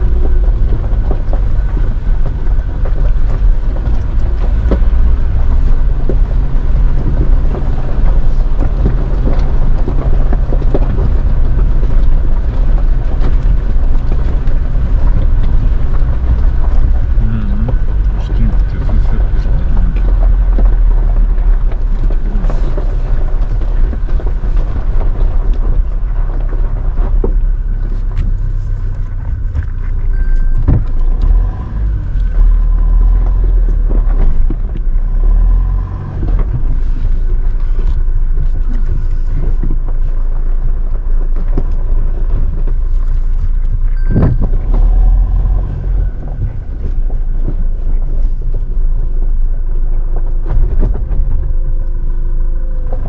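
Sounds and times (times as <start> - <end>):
stones and suspension knocking: 0.0 - 53.0
vehicle rumbling over gravel: 0.0 - 53.0.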